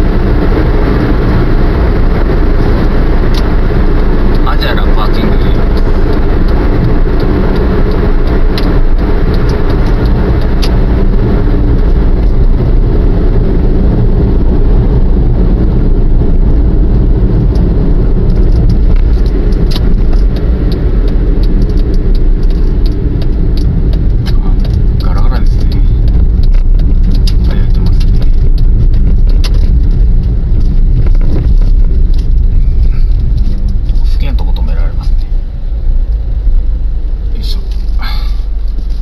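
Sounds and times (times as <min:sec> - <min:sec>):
car engine and tyres rumbling: 0:00.0 - 0:39.0.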